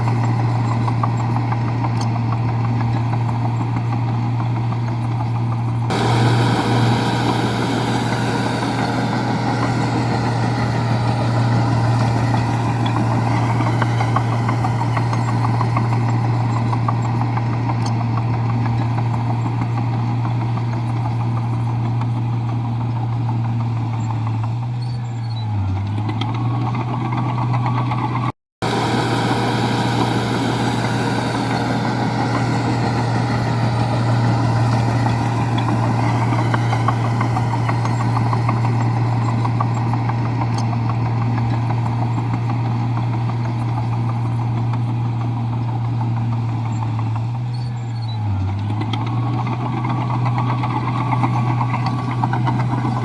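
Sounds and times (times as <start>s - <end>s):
bulldozer diesel engine running: 0.0s - 53.0s
clatter and rumble: 0.0s - 53.0s.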